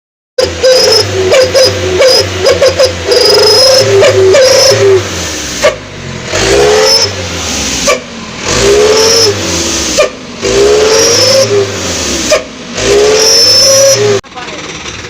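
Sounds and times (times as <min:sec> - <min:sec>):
truck diesel engine revving: 0:00.4 - 0:15.0.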